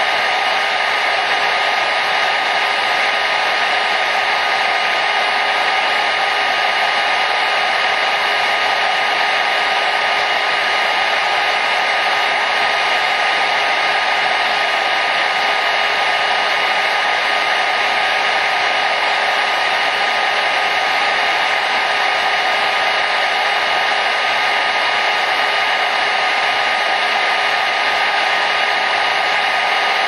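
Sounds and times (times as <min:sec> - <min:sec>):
hair dryer blowing: 0:00.0 - 0:30.0.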